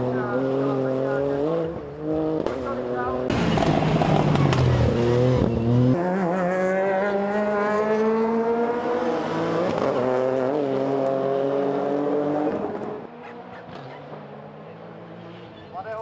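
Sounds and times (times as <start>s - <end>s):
rally car engine accelerating: 0.0s - 15.6s.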